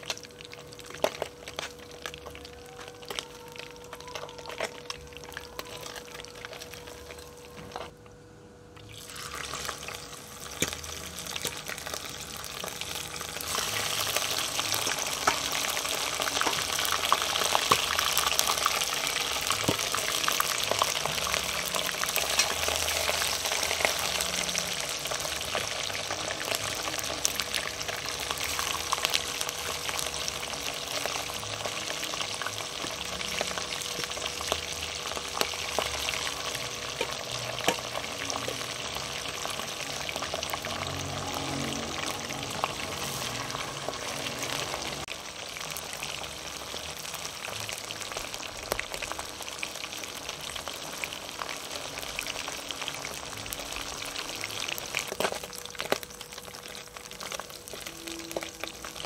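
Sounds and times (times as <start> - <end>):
fish sizzling in hot oil: 0.0 - 7.9, 8.8 - 59.0.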